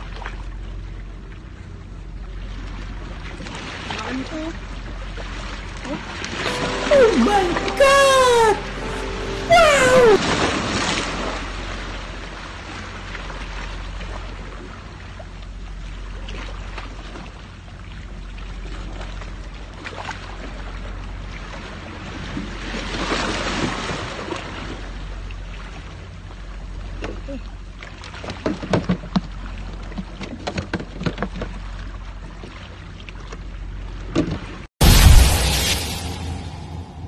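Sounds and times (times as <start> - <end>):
wind: 0.0 - 37.0.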